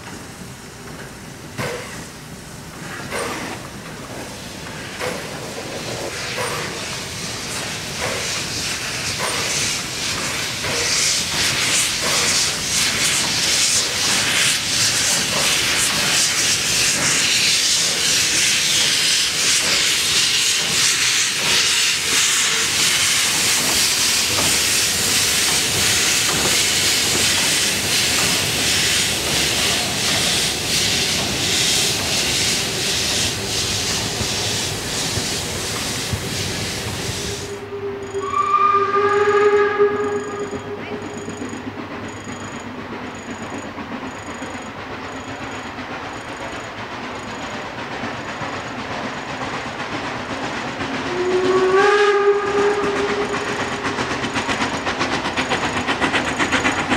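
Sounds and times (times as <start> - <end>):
steam hissing from cylinders: 0.0 - 56.9
steam locomotive exhaust chuffs: 0.0 - 56.9.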